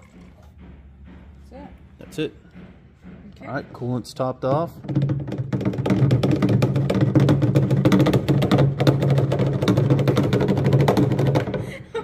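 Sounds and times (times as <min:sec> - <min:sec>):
music with busy percussive beat: 0:00.0 - 0:11.5.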